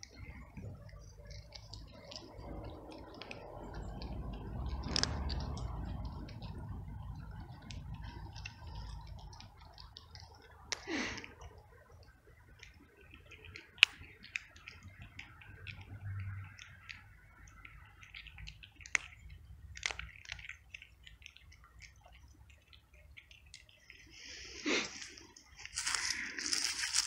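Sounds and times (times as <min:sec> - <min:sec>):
cat crunching dry kibble: 0:00.0 - 0:27.0.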